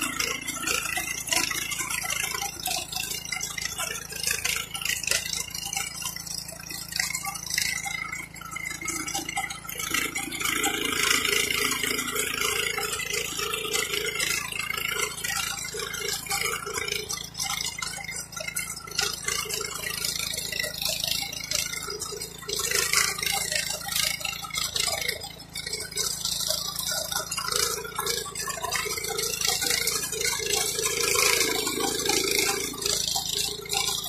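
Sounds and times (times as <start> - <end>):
power weeder rattling: 0.0 - 34.0.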